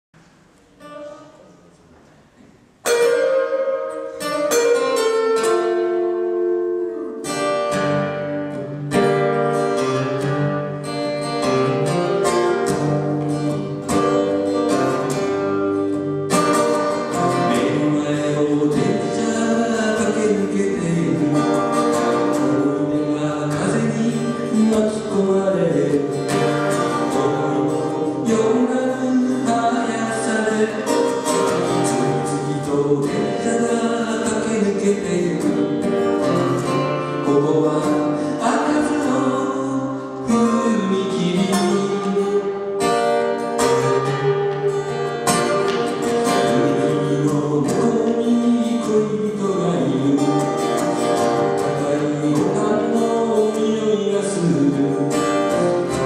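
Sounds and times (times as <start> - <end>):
song with guitar and singing: 2.3 - 56.0.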